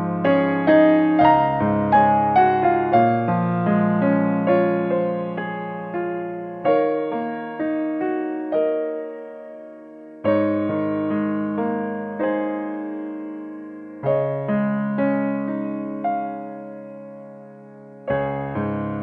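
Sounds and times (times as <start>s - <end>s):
gentle solo piano music: 0.0s - 19.0s.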